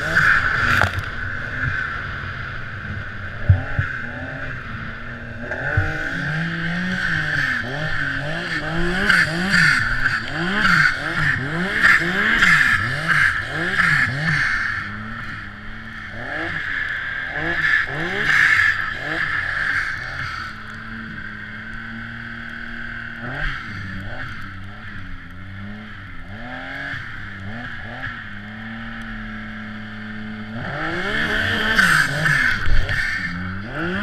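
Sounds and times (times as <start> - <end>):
snowmobile engine revving: 0.0 - 34.0.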